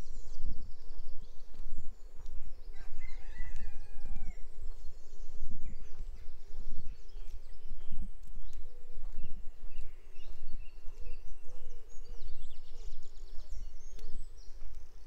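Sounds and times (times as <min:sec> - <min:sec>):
steady low rumble: 0:00.0 - 0:02.7, 0:03.6 - 0:15.0
birds calling and singing: 0:00.0 - 0:15.0.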